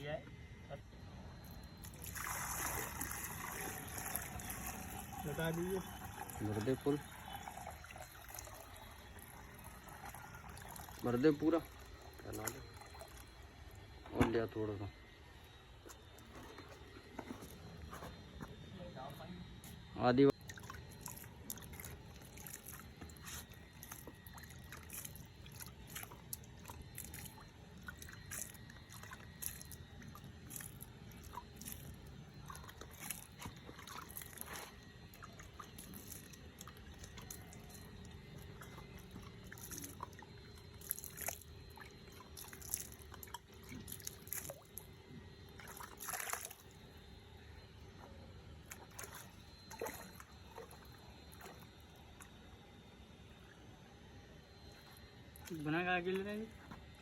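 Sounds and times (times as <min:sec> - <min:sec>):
dripping: 0:01.4 - 0:14.5, 0:20.3 - 0:46.9, 0:47.8 - 0:52.3, 0:54.7 - 0:57.0.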